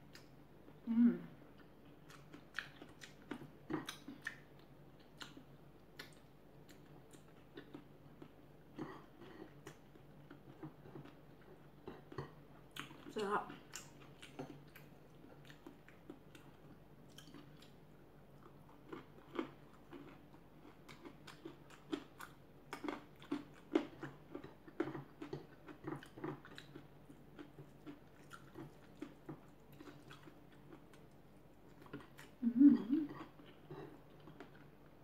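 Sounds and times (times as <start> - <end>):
person chewing food: 0.0 - 0.8, 1.4 - 35.0.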